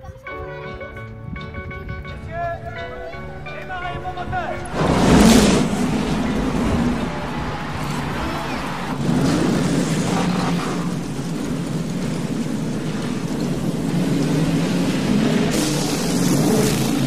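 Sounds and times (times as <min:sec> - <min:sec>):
racing engines droning: 0:02.0 - 0:17.0.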